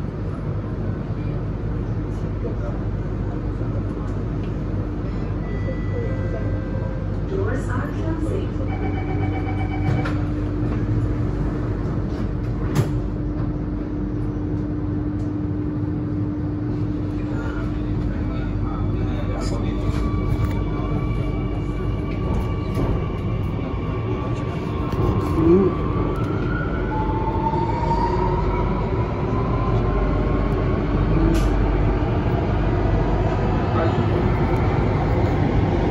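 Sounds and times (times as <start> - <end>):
train equipment humming: 1.8 - 35.9.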